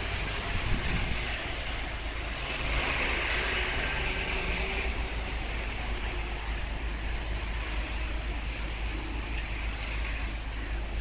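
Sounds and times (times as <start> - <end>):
street traffic: 0.0 - 11.0
wind buffeting microphone: 0.0 - 11.0.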